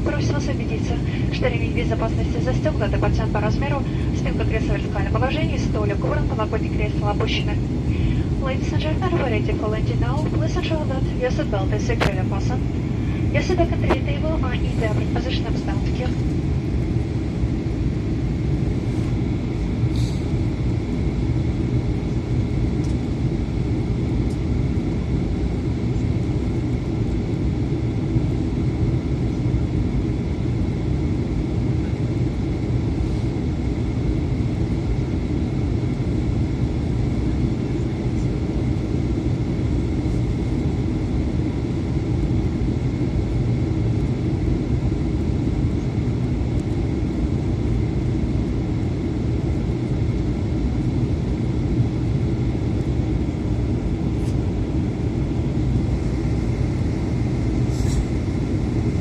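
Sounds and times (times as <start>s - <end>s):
aircraft engine and airflow drone: 0.0s - 59.0s
faint steady whine: 0.0s - 59.0s.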